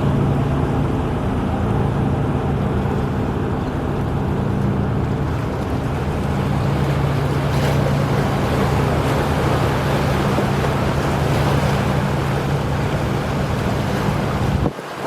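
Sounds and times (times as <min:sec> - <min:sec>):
wind noise: 0:00.0 - 0:14.8
boat diesel engine humming: 0:00.0 - 0:15.0
water wash: 0:00.0 - 0:15.0.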